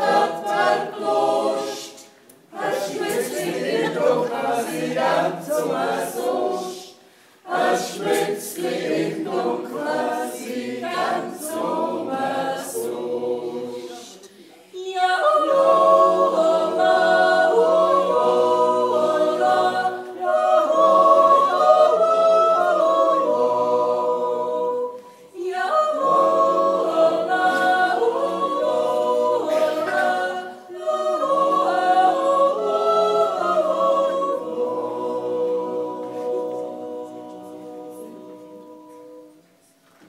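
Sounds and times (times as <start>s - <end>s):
choir singing a cappella: 0.0s - 39.8s.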